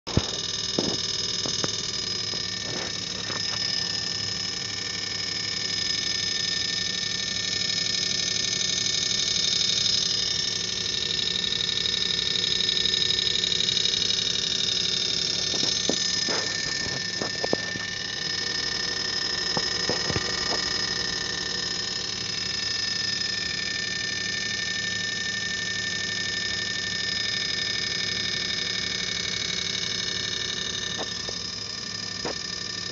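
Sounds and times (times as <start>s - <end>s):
compressor rattling buzz: 0.0s - 32.9s.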